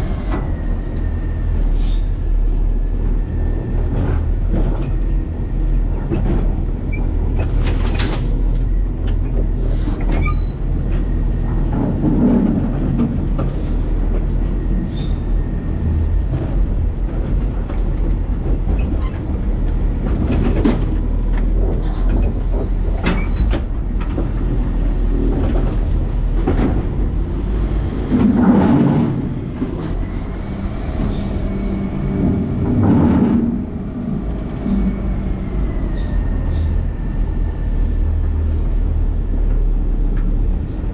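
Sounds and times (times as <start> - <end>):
engine and hydraulic rumble: 0.0 - 40.9.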